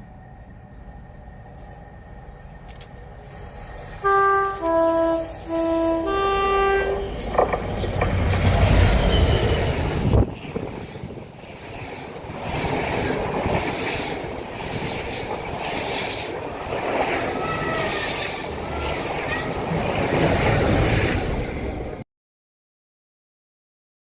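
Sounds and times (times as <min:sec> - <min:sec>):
rail and wheel noise: 0:00.0 - 0:22.0
train rumble: 0:00.0 - 0:22.0.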